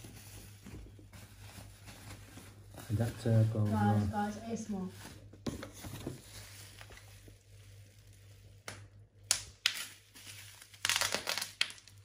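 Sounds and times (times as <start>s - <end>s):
plastic bag crinkling: 0.0s - 8.6s, 9.6s - 12.0s.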